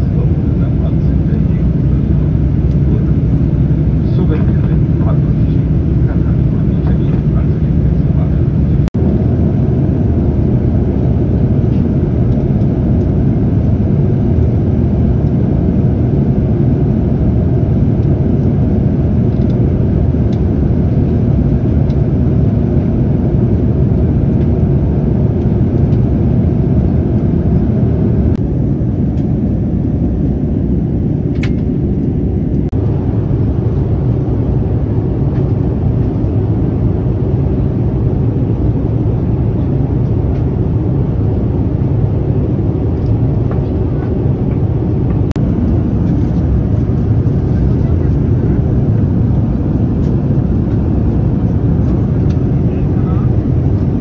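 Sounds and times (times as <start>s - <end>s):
airplane cabin noise: 0.0s - 54.0s.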